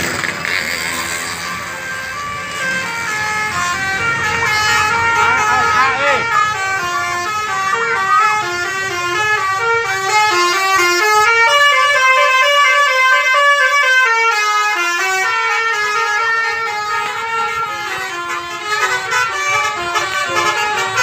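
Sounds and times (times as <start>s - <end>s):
musical bus horn playing a tune: 0.0s - 21.0s.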